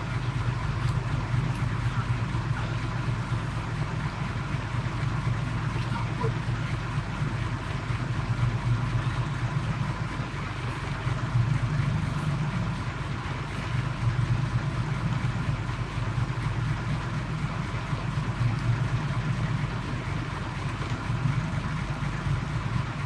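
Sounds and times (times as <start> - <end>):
boat engine humming: 0.0 - 23.0
water noise: 0.0 - 23.0
wind: 0.0 - 23.0.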